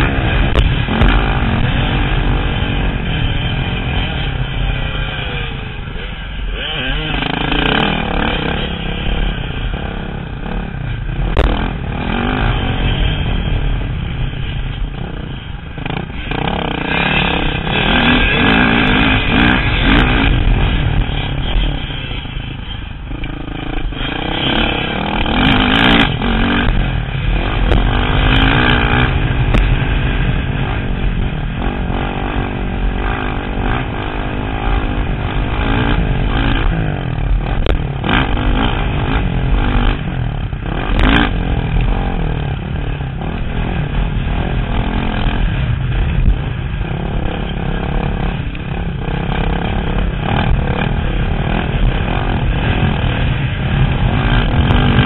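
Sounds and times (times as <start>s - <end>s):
dirt bike engine revving: 0.0s - 55.0s
wind rushing over microphone: 0.0s - 55.0s.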